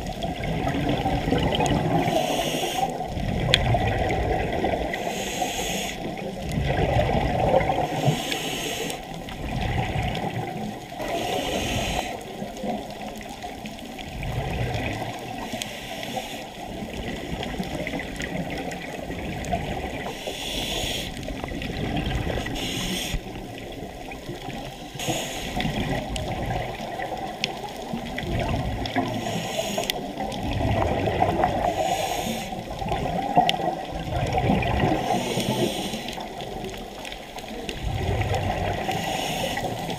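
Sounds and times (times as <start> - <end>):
muffled underwater noise: 0.0 - 39.9
scuba regulator exhaust bubbles: 0.0 - 39.9.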